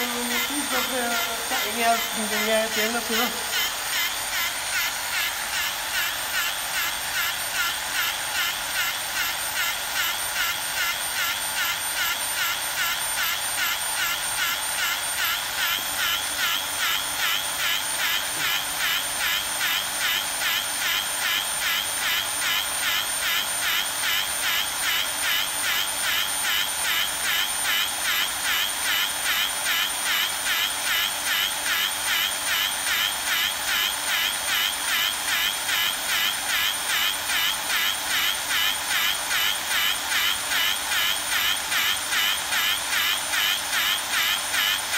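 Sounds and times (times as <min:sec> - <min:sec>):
pipe bevelling machine whine: 0:00.0 - 0:44.9.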